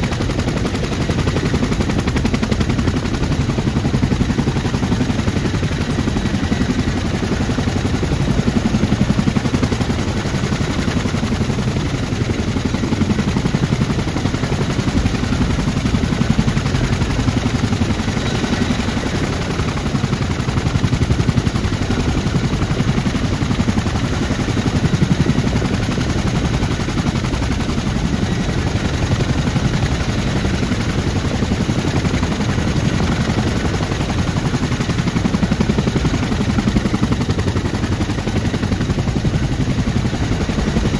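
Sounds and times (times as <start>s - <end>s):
helicopter rotor blade slap: 0.0s - 40.9s.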